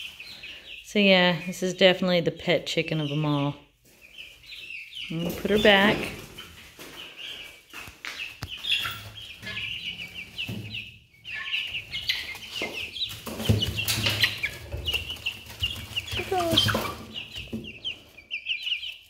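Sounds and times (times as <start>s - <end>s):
chicks peeping and clucking: 0.0s - 19.0s.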